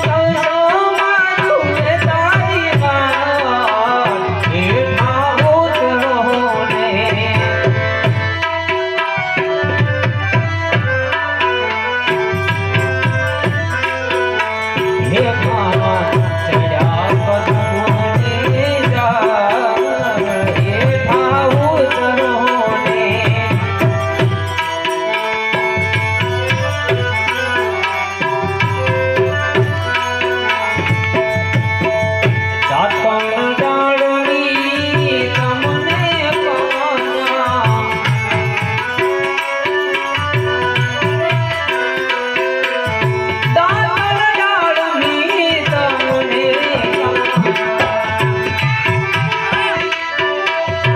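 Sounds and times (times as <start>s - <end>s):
harmonium melody: 0.0s - 50.9s
tabla rhythm: 0.0s - 50.9s.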